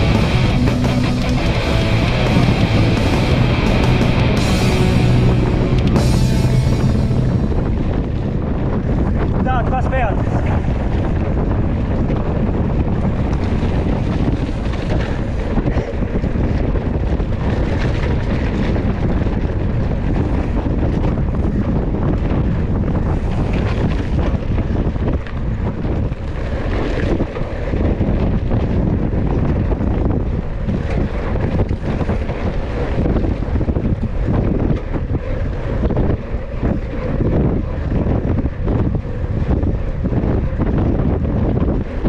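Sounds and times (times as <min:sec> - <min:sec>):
bike tyres rumbling on dirt: 0:00.0 - 0:42.0
wind rushing over microphone: 0:00.0 - 0:42.0.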